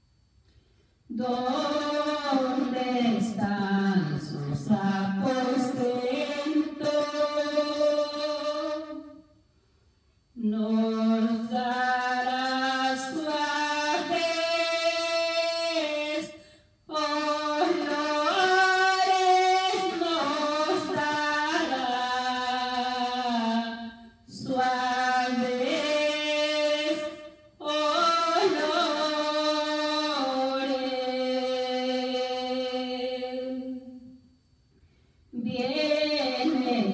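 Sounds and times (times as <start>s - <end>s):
woman singing unaccompanied: 1.1s - 9.2s, 10.4s - 34.1s, 35.4s - 36.9s.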